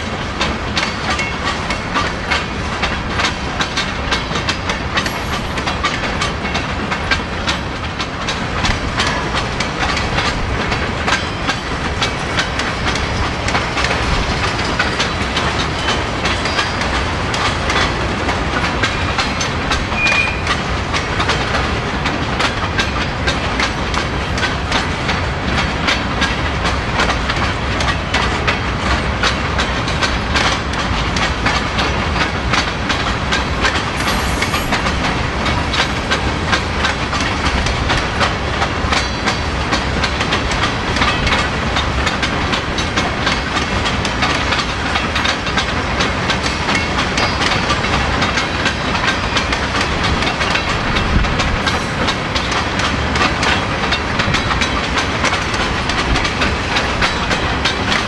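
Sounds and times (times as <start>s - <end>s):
train rumble: 0.0s - 58.0s
train wheels clicking over rail joints: 0.0s - 58.0s.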